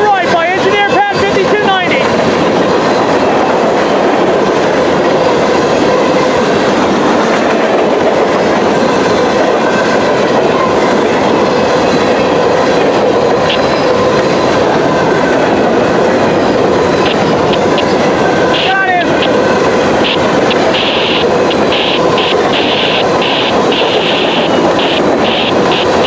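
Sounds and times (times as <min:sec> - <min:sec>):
clickety-clack of rail joints: 0:00.0 - 0:26.0
freight train rolling past: 0:00.0 - 0:26.0.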